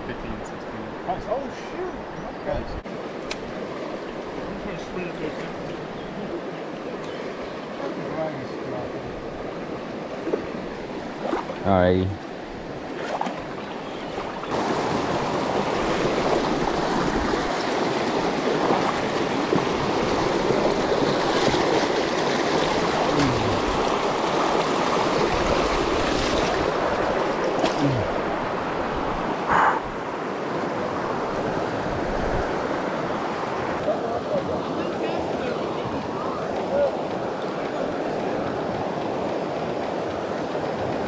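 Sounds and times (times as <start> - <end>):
water rushing over rocks: 2.9 - 41.0.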